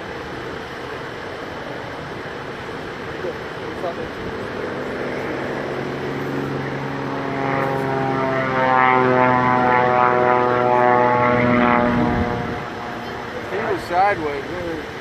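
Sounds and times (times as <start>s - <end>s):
propeller plane engine: 0.0s - 15.0s.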